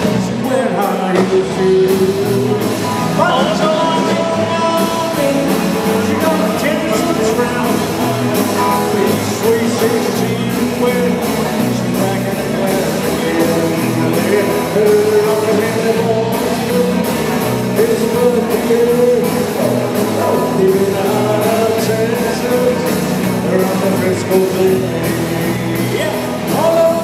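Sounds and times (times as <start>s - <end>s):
bass guitar: 0.0s - 27.0s
drum kit beat: 0.0s - 27.0s
electric guitars: 0.0s - 27.0s
person singing: 0.0s - 27.0s.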